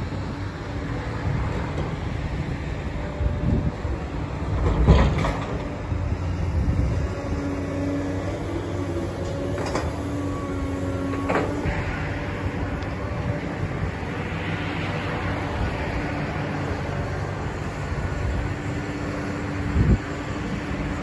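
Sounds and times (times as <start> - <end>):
diesel engine rumble: 0.0 - 21.0
hydraulic whine: 0.0 - 21.0.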